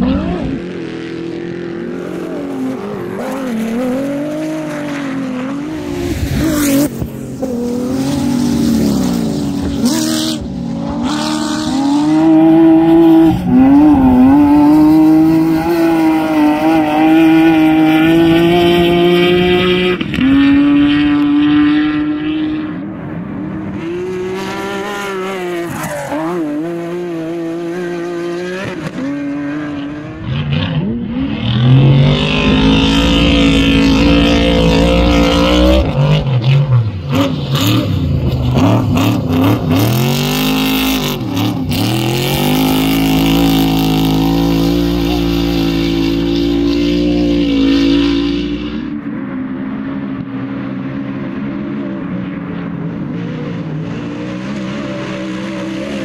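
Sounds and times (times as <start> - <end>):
race car engines revving past: 0.0 - 56.0.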